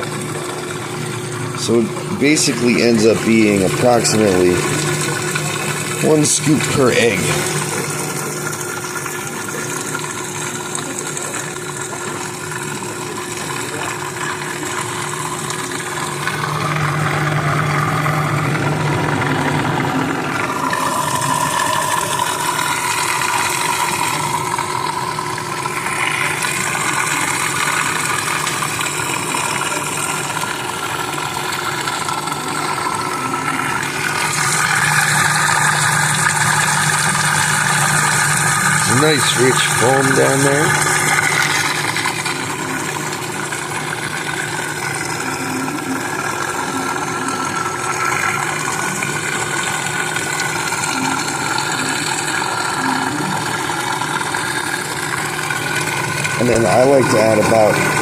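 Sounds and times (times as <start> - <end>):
food processor motor humming: 0.0 - 58.0.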